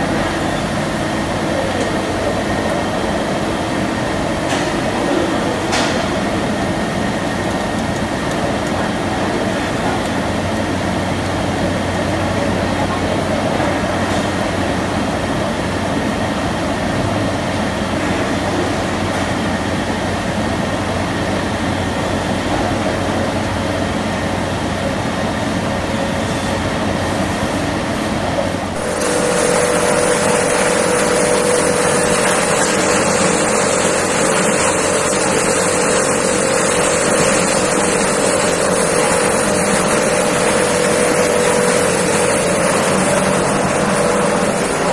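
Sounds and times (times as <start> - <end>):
machinery humming: 0.0 - 44.9.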